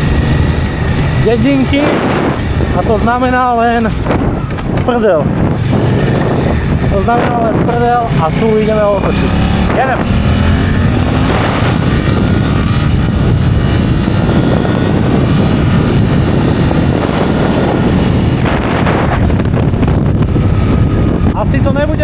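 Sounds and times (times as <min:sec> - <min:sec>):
motorcycle engine accelerating: 0:00.0 - 0:22.0
wind noise on microphone: 0:00.0 - 0:22.0.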